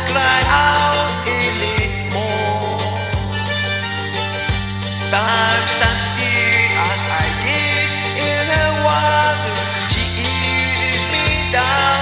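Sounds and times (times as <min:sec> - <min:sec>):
backing track with bass and drums: 0:00.0 - 0:12.0
person singing: 0:00.0 - 0:12.0.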